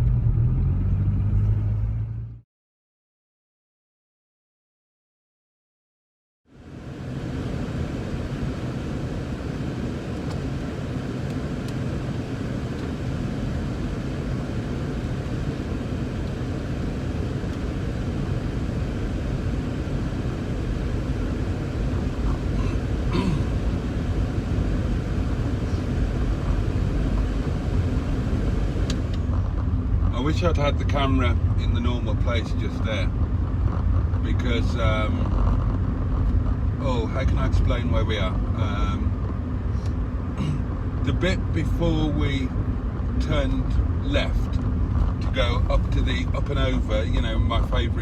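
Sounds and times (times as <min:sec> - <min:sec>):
car engine and road rumble: 0:00.0 - 0:02.4, 0:06.5 - 0:48.0.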